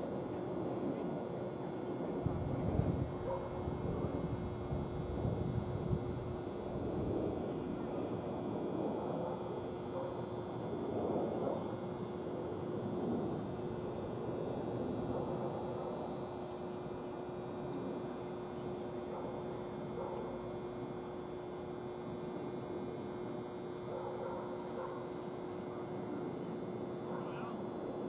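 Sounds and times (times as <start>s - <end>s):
constant low hum: 0.0s - 28.0s.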